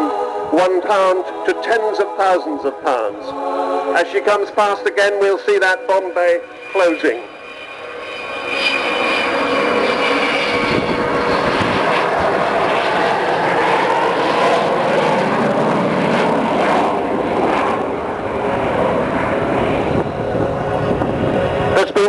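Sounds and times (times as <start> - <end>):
jet aircraft flying past: 0.0 - 22.0.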